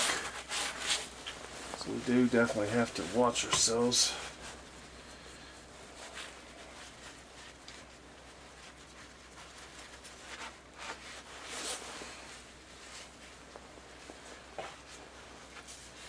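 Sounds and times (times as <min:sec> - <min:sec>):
low steady hum: 0:00.0 - 0:16.0
nylon jacket brushing: 0:00.0 - 0:16.0
paper towel rubbing and rustling: 0:00.0 - 0:16.0.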